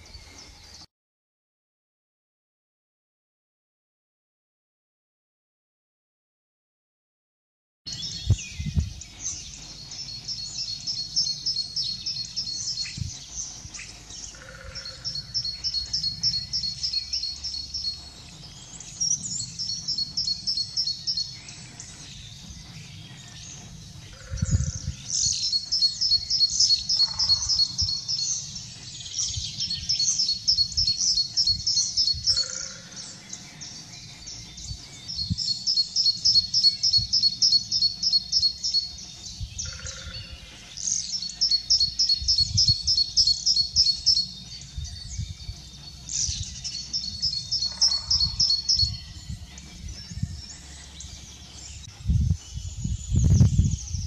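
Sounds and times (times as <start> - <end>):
starling singing: 7.9 - 54.0.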